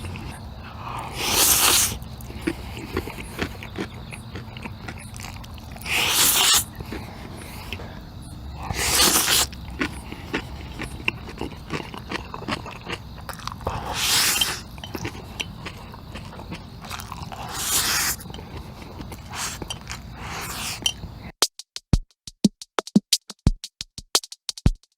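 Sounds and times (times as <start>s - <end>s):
noodles slurping: 0.0s - 21.3s
wet chewing and lip-smacking: 0.0s - 21.3s.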